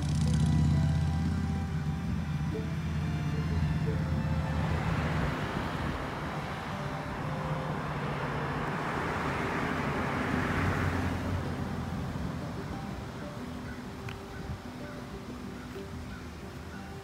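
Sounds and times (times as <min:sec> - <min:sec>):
low steady hum: 0:00.0 - 0:17.0
motor vehicle passing: 0:00.0 - 0:17.0.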